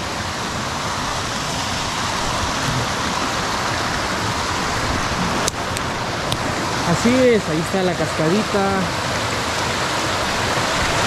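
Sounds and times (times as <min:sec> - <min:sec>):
water rushing from a cascade: 0:00.0 - 0:11.0.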